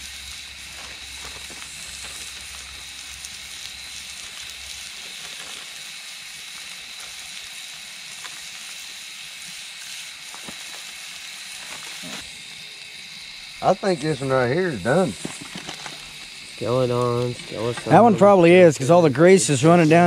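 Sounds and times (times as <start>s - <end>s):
faint fire crackles: 0.0s - 20.0s
patties sizzling on griddle: 0.0s - 20.0s.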